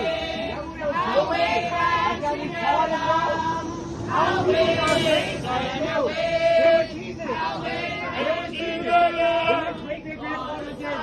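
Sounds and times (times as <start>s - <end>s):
group of people singing: 0.0s - 11.0s.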